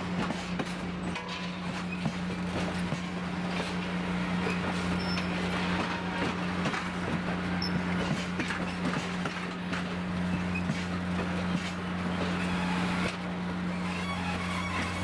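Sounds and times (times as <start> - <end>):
train engine hum: 0.0 - 15.0
train running noise: 0.0 - 15.0.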